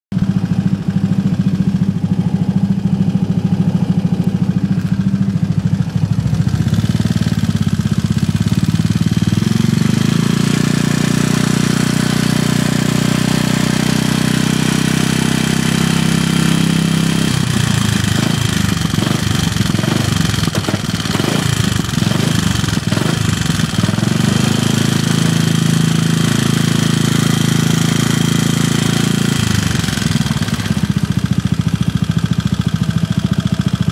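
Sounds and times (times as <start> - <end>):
scooter engine revving: 0.2 - 33.9.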